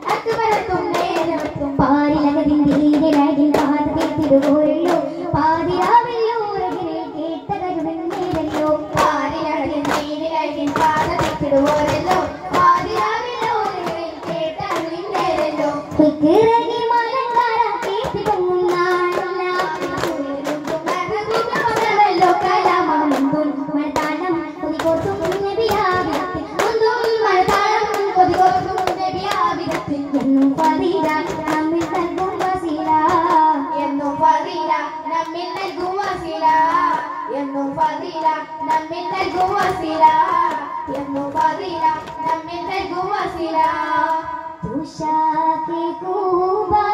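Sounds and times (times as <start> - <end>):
frame drums beating: 0.0 - 44.7
boys singing together: 0.0 - 46.9.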